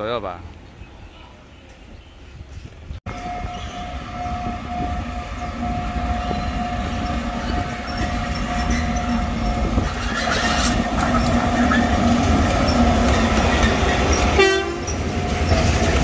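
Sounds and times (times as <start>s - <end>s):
train rumble: 1.6s - 16.0s.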